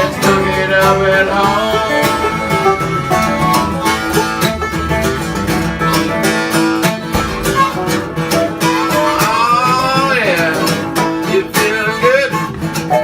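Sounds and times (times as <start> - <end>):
acoustic guitar picked and strummed: 0.0 - 13.0.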